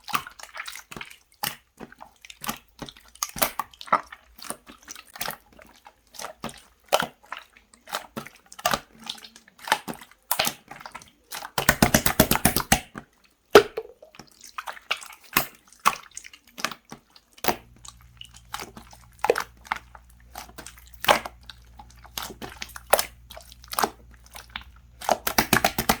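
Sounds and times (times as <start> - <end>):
slime squishing with sticky clicks: 0.0 - 26.0.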